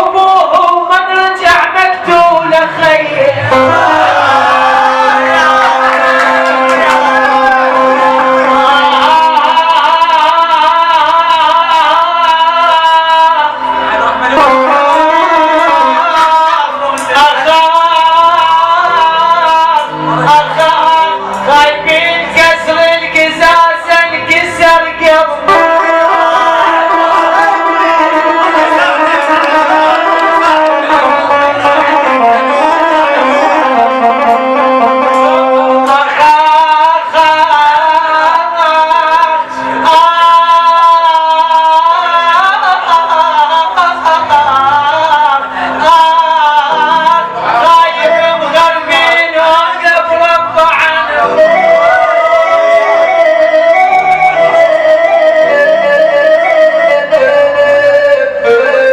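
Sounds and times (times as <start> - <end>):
instrumental accompaniment: 0.0 - 58.9
person singing ornamented melody: 0.0 - 58.9.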